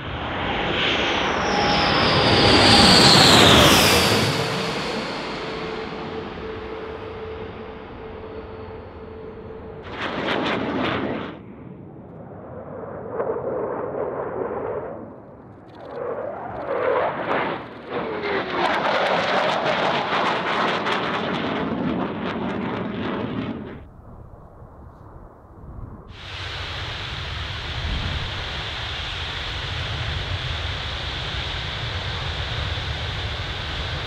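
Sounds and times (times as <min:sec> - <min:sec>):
crackling jet noise: 0:00.0 - 0:34.0.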